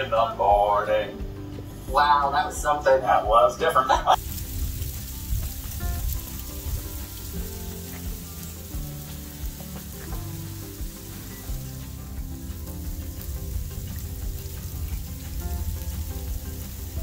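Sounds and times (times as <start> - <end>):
faint background music: 0.0 - 17.0
freezing rain hissing: 0.0 - 17.0.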